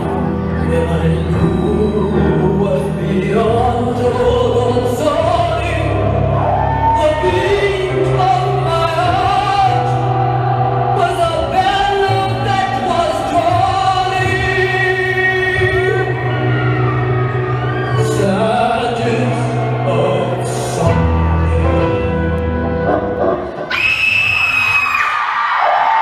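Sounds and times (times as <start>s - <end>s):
person singing: 0.0s - 23.6s.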